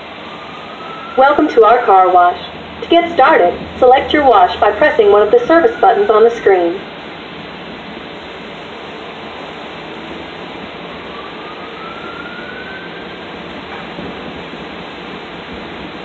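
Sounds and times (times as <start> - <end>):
faint rising whine: 0.0 - 13.4.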